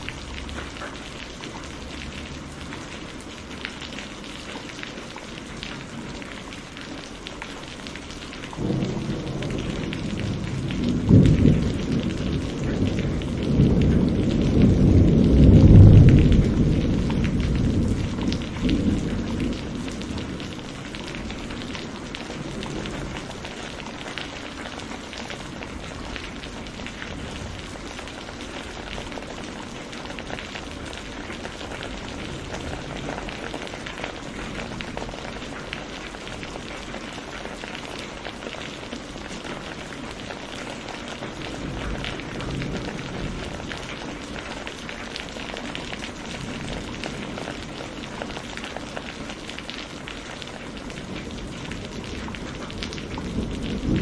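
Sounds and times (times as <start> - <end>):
heavy rain pattering: 0.0 - 54.0
thunder rumbling: 8.1 - 37.6, 39.6 - 54.0.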